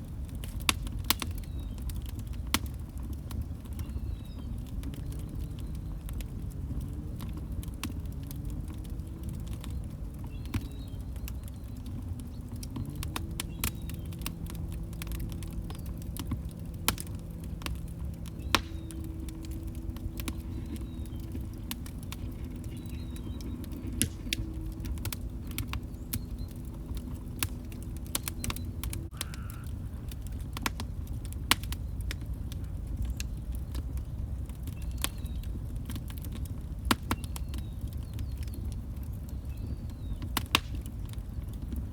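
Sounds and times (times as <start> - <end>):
log fire crackling: 0.0 - 41.9.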